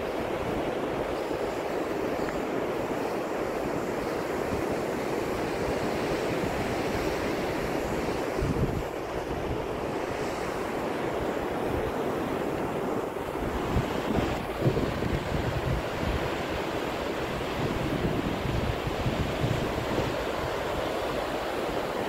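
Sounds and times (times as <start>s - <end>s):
breaking surf: 0.0s - 22.0s
wind buffeting microphone: 0.0s - 22.0s.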